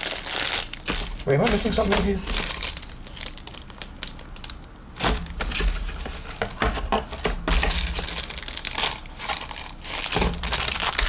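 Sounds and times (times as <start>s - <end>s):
plastic bag crinkling: 0.0s - 6.5s, 7.6s - 11.0s.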